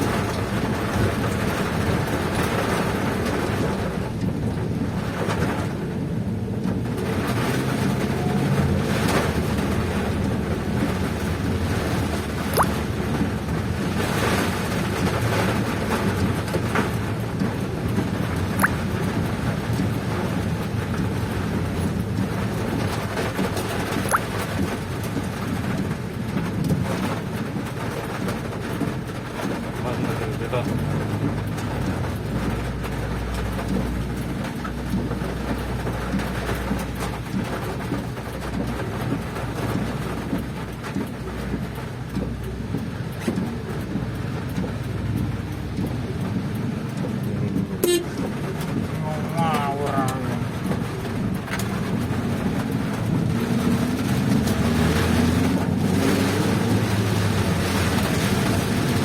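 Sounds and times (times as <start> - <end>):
heavy rain on vehicle: 0.0 - 59.0
road and wind rumble: 0.0 - 59.0.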